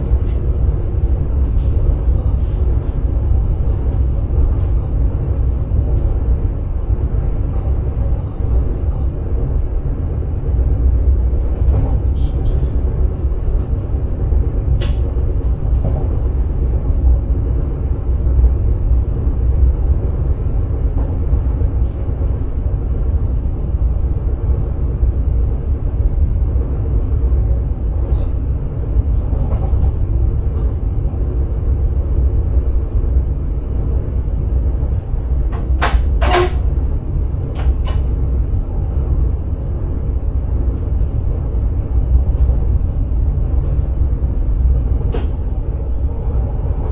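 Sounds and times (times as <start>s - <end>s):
train low rumble: 0.0s - 46.9s.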